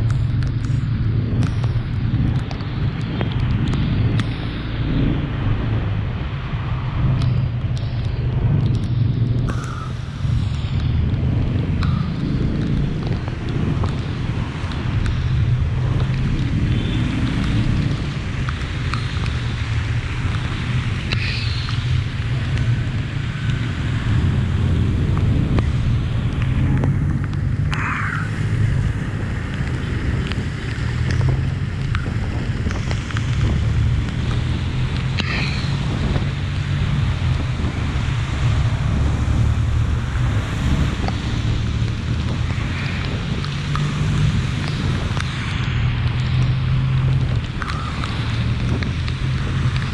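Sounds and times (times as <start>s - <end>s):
steady rain falling: 0.0s - 49.9s
wind buffeting microphone: 0.0s - 49.9s.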